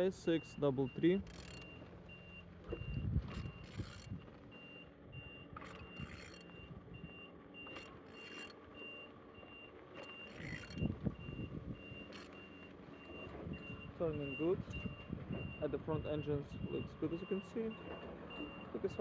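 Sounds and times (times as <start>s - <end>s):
reversing alarm beeping: 0.0s - 19.0s.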